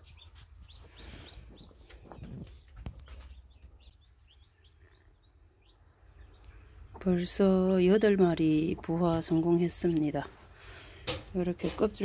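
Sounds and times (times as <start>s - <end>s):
chicks peeping faintly: 0.0s - 12.0s.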